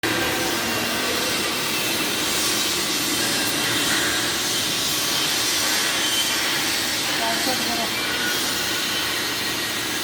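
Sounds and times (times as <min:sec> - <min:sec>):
welding arc hissing: 0:00.0 - 0:10.0.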